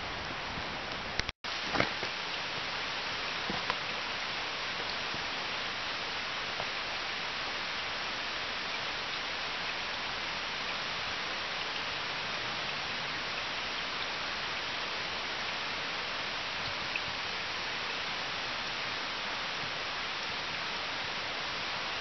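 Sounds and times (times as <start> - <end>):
stream running: 0.0 - 22.0.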